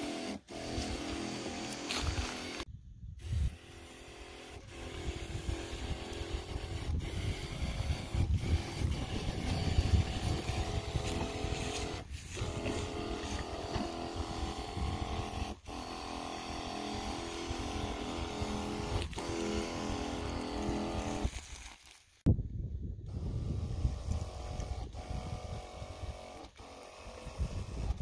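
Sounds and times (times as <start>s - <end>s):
electric pump humming: 0.0s - 21.8s, 23.1s - 28.0s.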